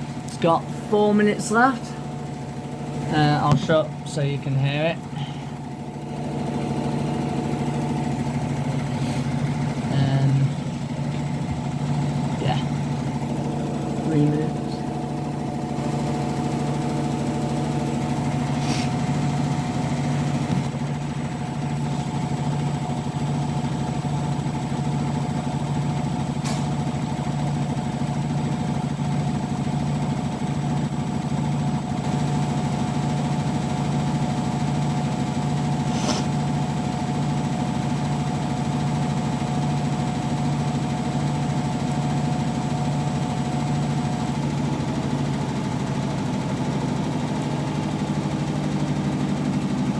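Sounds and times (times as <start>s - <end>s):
washing machine spinning: 0.0s - 49.9s.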